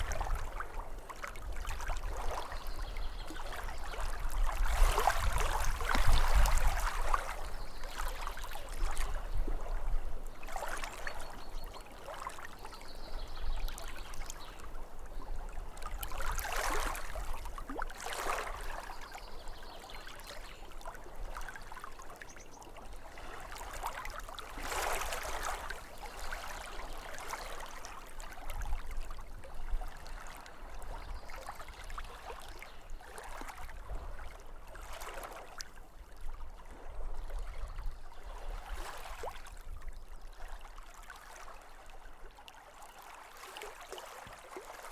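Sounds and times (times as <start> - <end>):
small waves lapping at shore: 0.0 - 44.9.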